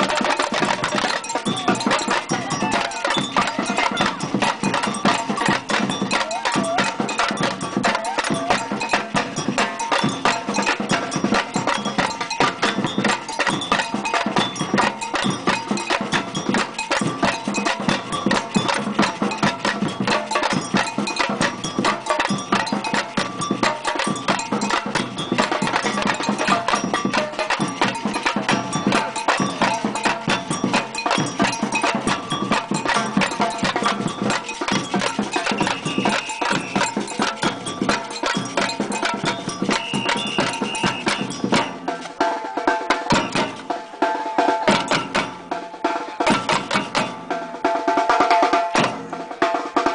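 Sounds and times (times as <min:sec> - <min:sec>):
samba percussion ensemble: 0:00.0 - 0:49.9.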